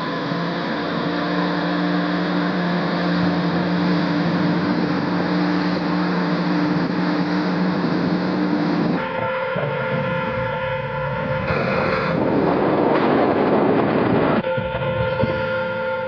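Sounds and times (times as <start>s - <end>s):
water rushing from wake: 0.0s - 14.4s
outboard motor running: 0.0s - 16.0s.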